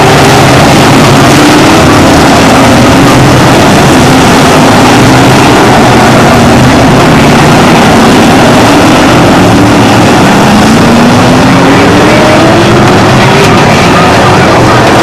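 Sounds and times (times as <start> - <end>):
racing car engines droning: 0.0 - 15.0.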